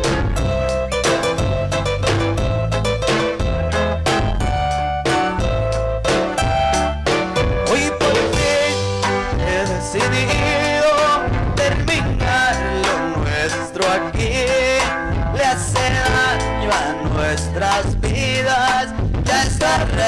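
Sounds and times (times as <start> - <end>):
accordion melody: 0.0 - 17.9
band music for dancing: 0.0 - 20.0
bass: 0.0 - 20.0
steady drum beat: 0.0 - 20.0.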